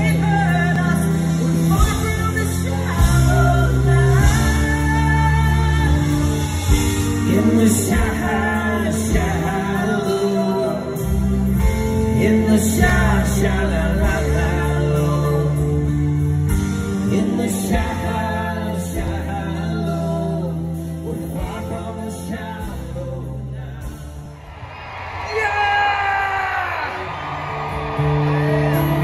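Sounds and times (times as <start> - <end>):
live band with guitars and drums: 0.0 - 29.0.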